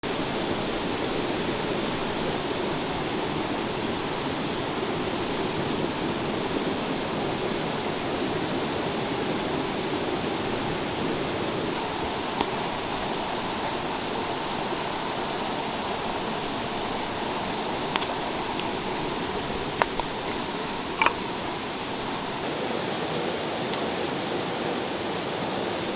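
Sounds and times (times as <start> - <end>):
river water rushing: 0.0 - 25.9.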